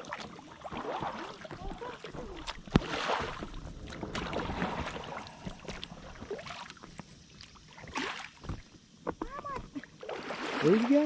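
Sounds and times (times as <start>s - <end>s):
paddle strokes splashing: 0.0s - 8.9s, 9.7s - 11.0s.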